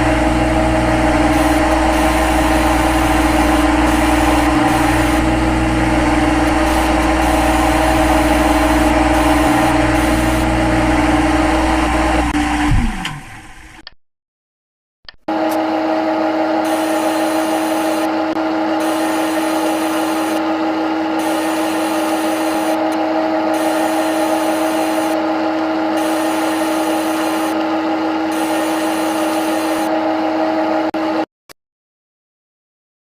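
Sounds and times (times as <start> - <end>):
lathe motor whine: 0.0 - 13.8, 15.3 - 31.2.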